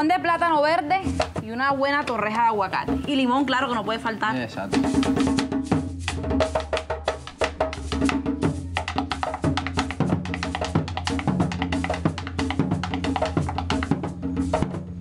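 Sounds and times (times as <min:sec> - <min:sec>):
drum and percussion beat: 0:00.0 - 0:15.0.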